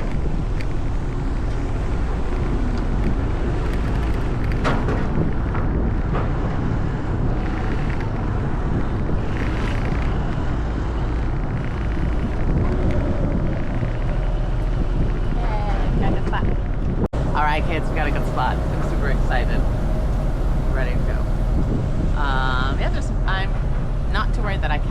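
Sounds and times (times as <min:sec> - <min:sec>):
vehicle engine: 0:00.0 - 0:24.9
wind rushing over microphone: 0:00.0 - 0:24.9.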